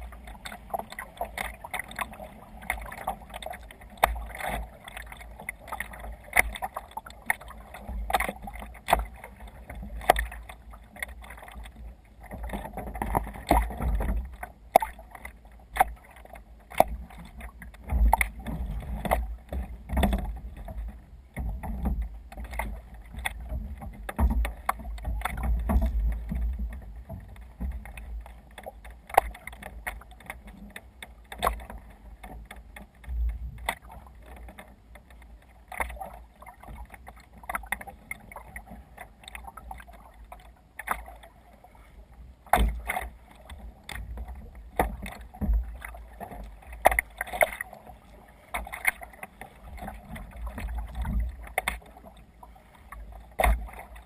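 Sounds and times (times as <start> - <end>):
water splashing against kayak hull: 0.0 - 54.0.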